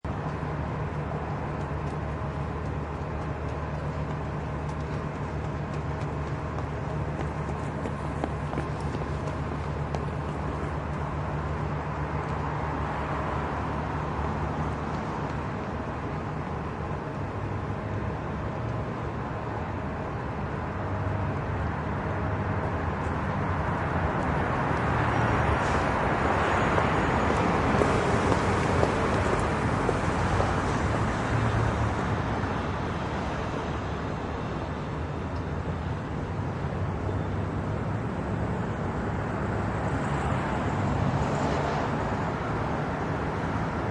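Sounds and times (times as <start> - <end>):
hum of passing cars: 0.0 - 43.9.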